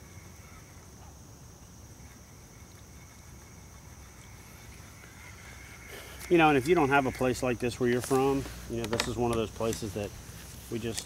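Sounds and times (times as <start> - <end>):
insect chorus high trill: 0.0 - 11.0.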